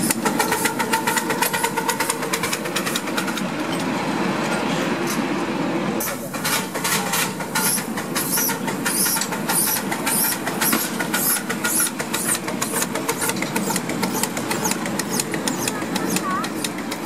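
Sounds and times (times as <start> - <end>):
steam locomotive chuffing: 0.0 - 4.0, 6.0 - 17.0
wheels clattering on track: 0.0 - 5.3, 6.0 - 17.0.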